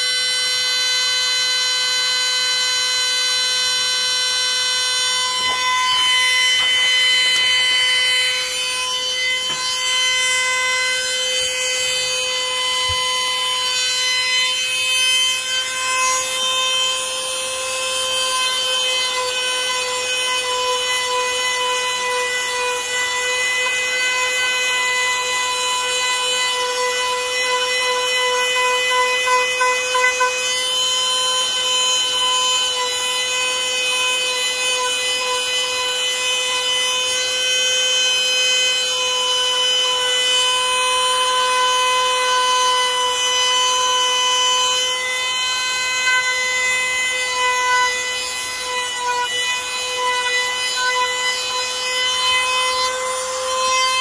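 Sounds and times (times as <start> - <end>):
power tool whining: 0.0 - 54.0.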